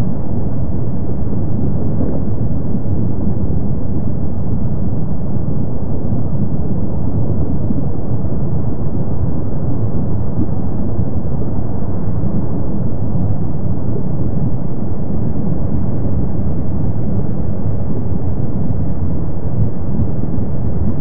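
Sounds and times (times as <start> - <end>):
lava eruption low rumble: 0.0 - 21.0.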